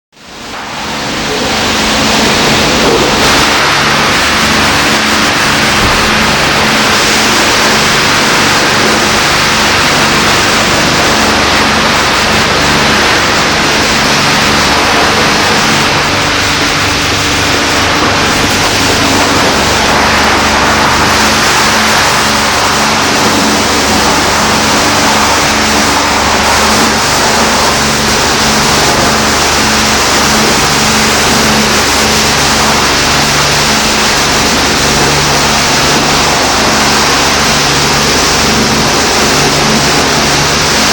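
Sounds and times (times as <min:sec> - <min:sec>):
low machine hum: 0:00.2 - 0:40.9
spraying water rushing: 0:00.2 - 0:40.9.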